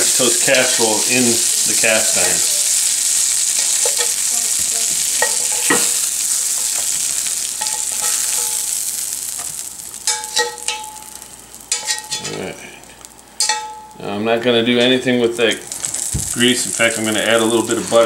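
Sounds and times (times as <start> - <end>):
sausages sizzling in grease: 0.0 - 18.0.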